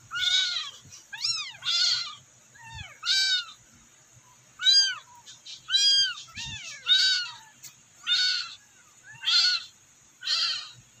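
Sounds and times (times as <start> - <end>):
kittens meowing: 0.1 - 3.6, 4.6 - 10.8.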